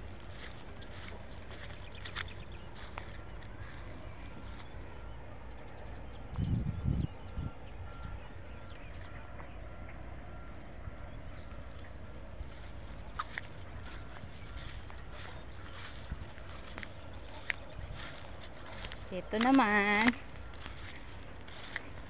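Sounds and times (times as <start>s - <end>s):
steady low rumble: 0.0s - 8.3s, 11.1s - 22.0s.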